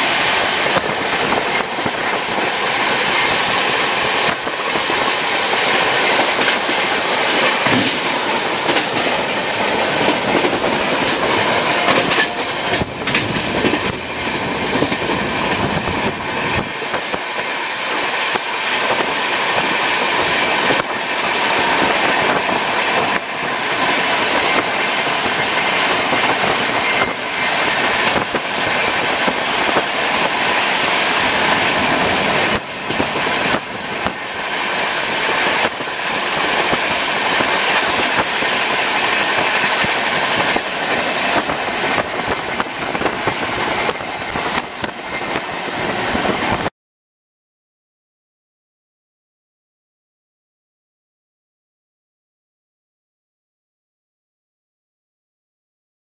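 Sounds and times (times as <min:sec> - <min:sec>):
train wheels rumbling on rail: 0:00.0 - 0:46.7.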